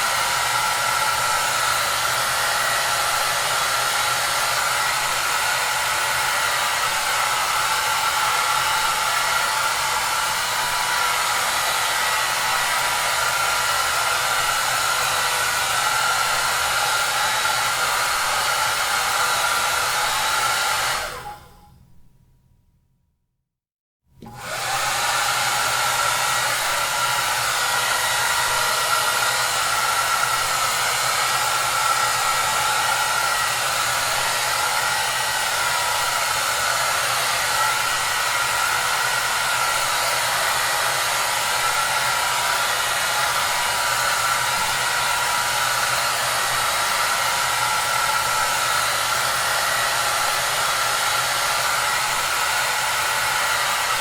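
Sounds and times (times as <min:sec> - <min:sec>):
hair dryer running: 0:00.0 - 0:21.7, 0:24.2 - 0:54.0.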